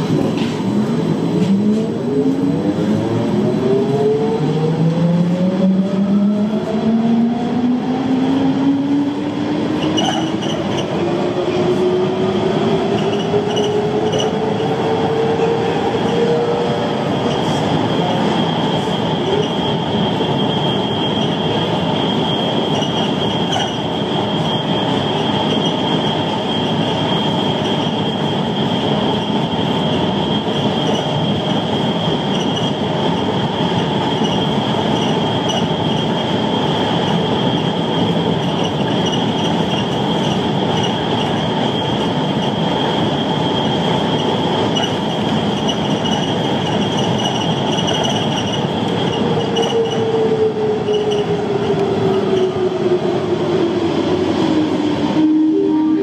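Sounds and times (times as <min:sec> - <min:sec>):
train rushing running noise: 0:00.0 - 0:56.0.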